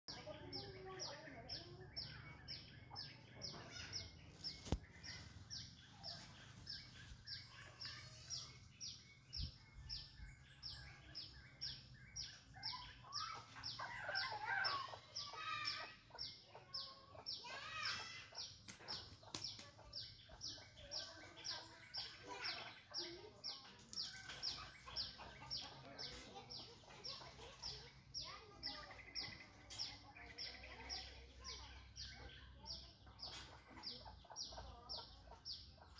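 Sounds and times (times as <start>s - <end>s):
chickens clucking: 0.2s - 35.9s.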